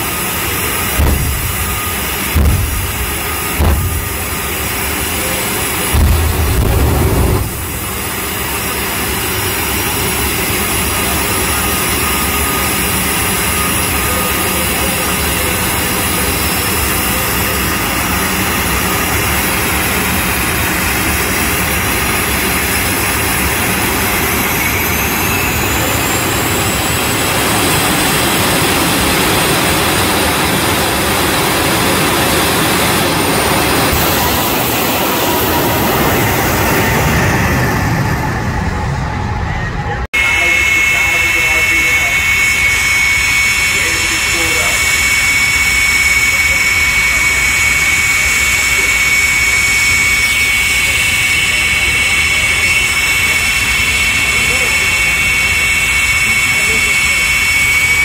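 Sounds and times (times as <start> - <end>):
jet engine running loud: 0.0 - 58.0.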